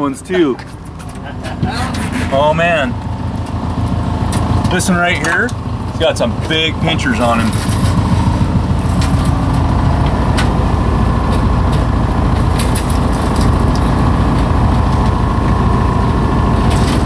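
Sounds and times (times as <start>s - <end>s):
boat motor idling: 0.0s - 17.0s.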